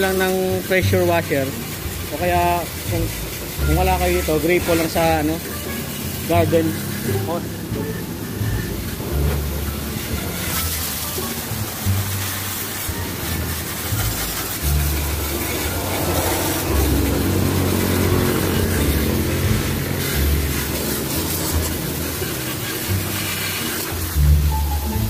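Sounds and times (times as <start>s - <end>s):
pressure washer spray hissing: 0.0s - 25.0s
washer motor humming: 0.0s - 25.0s.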